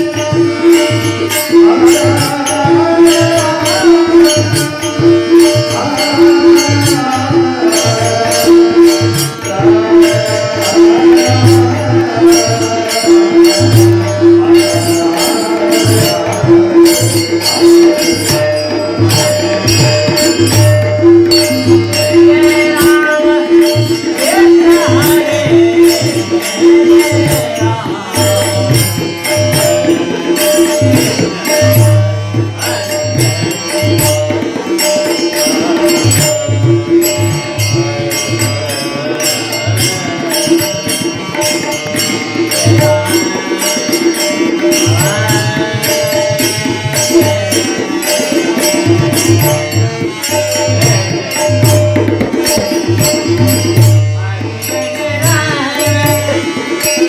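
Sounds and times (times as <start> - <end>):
tabla drum strokes: 0.0 - 57.0.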